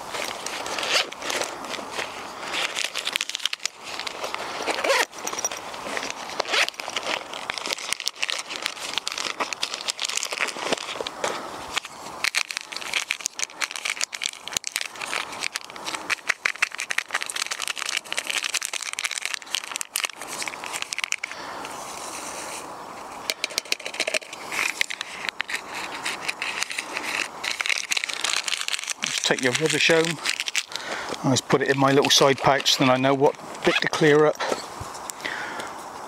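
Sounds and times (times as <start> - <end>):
wrapper crinkling: 0.0 - 21.4, 23.3 - 34.3.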